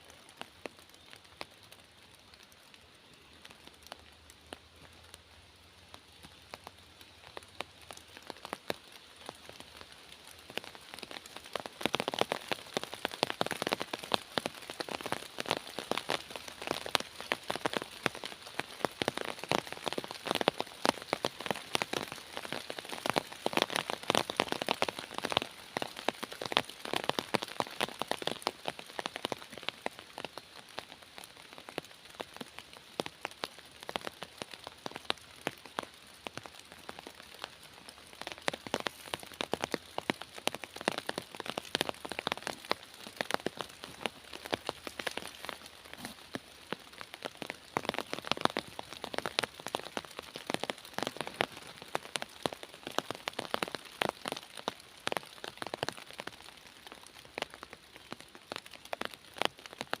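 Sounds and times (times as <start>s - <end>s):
raindrops pattering: 0.0s - 60.0s
steady hiss of rain: 0.0s - 60.0s.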